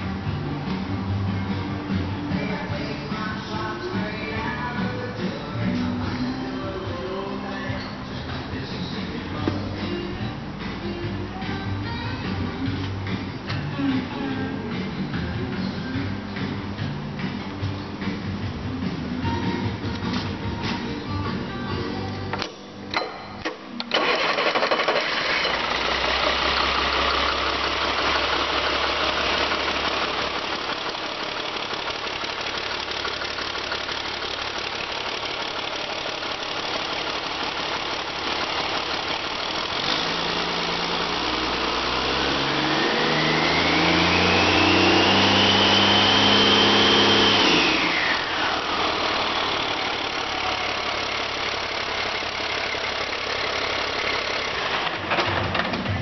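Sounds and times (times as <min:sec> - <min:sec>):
diesel engine idling and revving: 0:00.0 - 0:22.4, 0:23.8 - 0:56.0.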